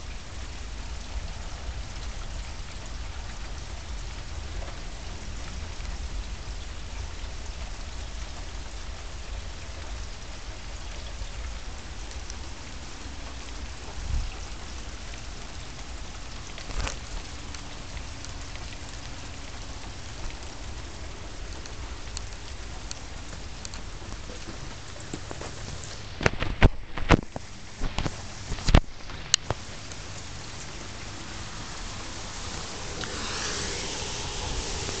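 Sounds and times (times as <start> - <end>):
steady rain hissing: 0.0 - 35.0.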